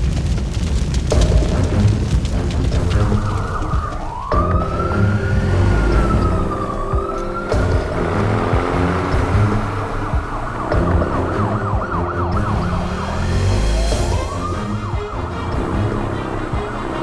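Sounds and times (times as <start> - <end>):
low rumble: 1.0 - 17.0
emergency siren warbling and wailing: 2.8 - 17.0.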